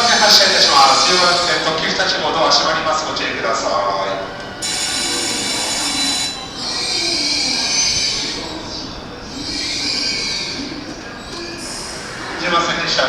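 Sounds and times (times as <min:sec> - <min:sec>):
train wheels squealing: 0:00.0 - 0:13.0.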